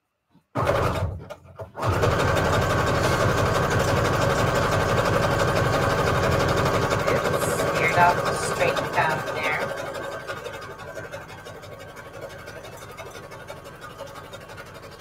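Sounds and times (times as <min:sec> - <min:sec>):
sewing machine stitching paper: 0:00.5 - 0:15.0.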